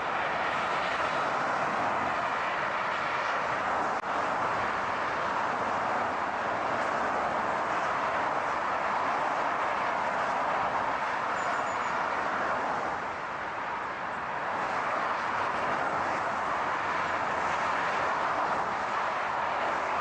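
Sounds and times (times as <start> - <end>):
car road and tyre noise: 0.0 - 20.0.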